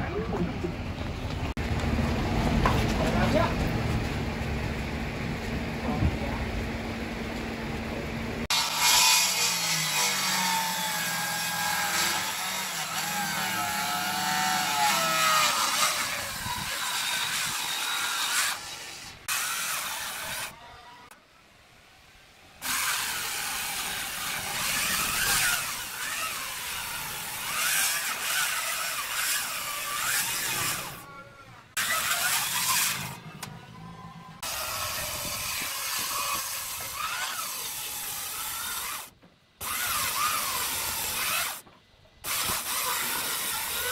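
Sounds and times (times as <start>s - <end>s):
circular saw cutting wood: 8.4s - 43.9s.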